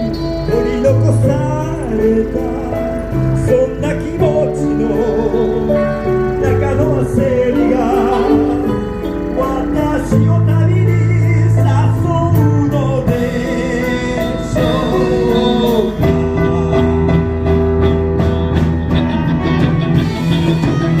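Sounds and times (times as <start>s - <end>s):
wavering singing voice: 0.0s - 17.6s.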